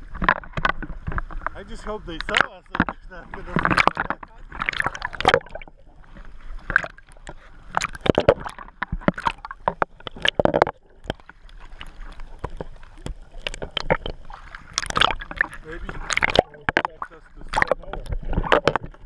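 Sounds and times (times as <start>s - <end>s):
sea water splashing: 0.0s - 19.0s
underwater gurgling: 0.0s - 19.0s.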